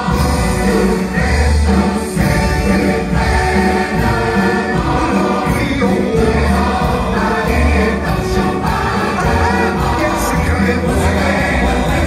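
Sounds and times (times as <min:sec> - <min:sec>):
choir singing: 0:00.0 - 0:12.0
orchestral show music: 0:00.0 - 0:12.0.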